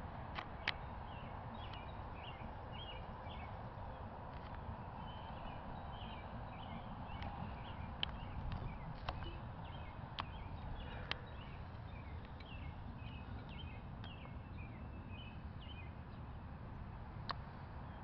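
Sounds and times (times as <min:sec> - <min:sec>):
songbirds chirping: 0:00.0 - 0:18.0
steady low rumble: 0:00.0 - 0:18.0.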